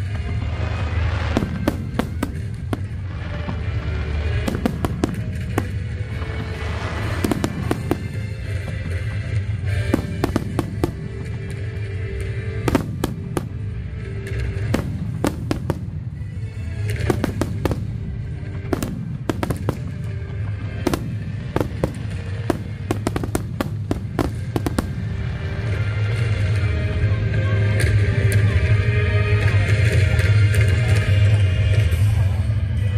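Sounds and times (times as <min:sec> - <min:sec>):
fireworks bursting: 0:00.0 - 0:26.7
low rumble: 0:00.0 - 0:28.5
music playing: 0:00.0 - 0:32.9.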